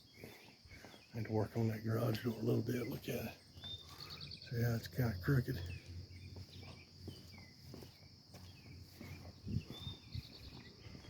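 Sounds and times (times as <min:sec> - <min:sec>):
footsteps: 0:00.0 - 0:04.2, 0:04.8 - 0:11.0
bird chirps: 0:00.0 - 0:11.0
insects droning: 0:00.0 - 0:11.0.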